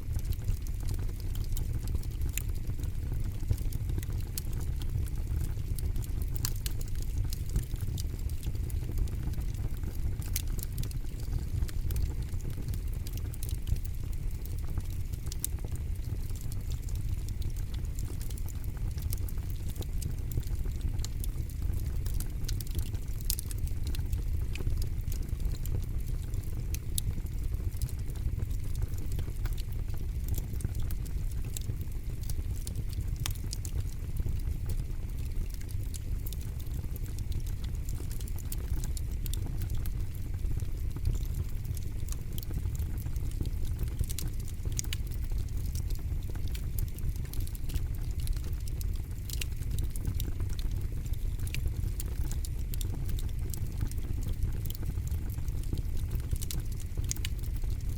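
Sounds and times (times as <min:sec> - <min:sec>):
fire crackling and popping: 0:00.0 - 0:57.9
low rumble of flames: 0:00.0 - 0:57.9.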